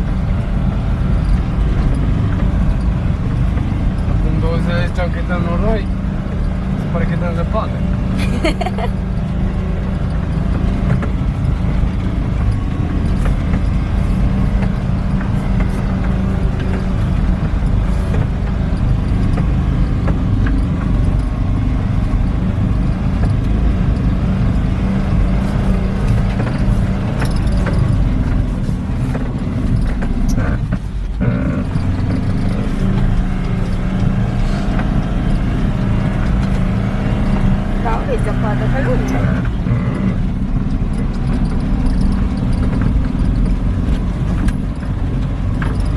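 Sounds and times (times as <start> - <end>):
car engine driving through snow: 0.0 - 45.9.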